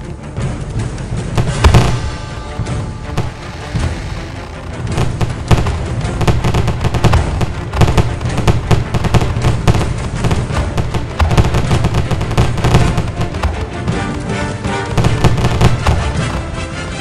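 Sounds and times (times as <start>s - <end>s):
music: 0.0s - 17.0s
fireworks bursts and crackles: 0.4s - 17.0s.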